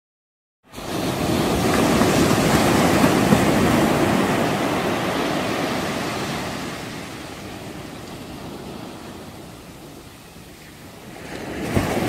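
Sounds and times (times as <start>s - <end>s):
wind and water rushing past boat: 0.7s - 12.0s.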